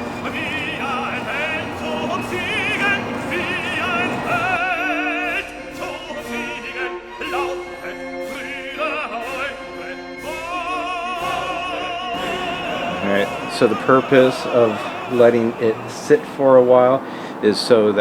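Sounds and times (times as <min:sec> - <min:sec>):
classical accompaniment: 0:00.0 - 0:17.2
operatic singing: 0:00.0 - 0:18.0.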